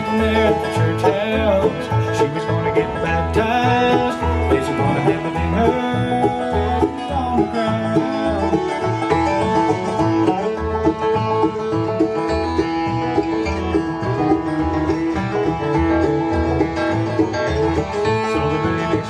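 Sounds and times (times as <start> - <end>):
banjo and guitar picking: 0.0 - 19.0
steady bass beat: 0.1 - 19.0.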